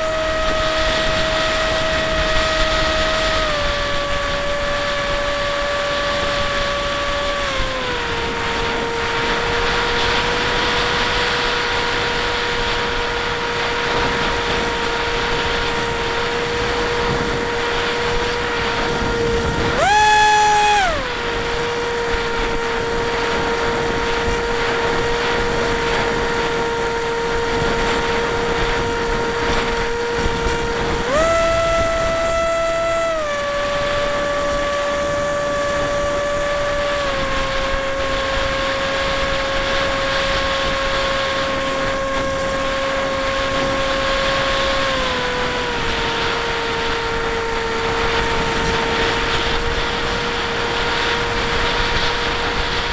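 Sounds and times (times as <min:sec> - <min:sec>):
electric motor and propeller whining: 0:00.0 - 0:52.9.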